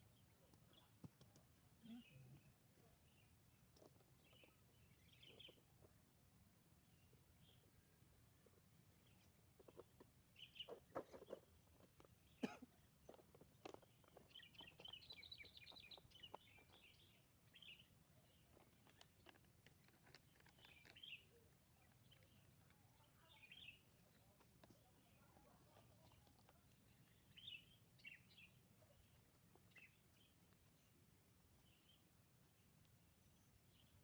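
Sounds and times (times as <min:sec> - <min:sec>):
faint birdsong chirps: 0:00.0 - 0:34.0.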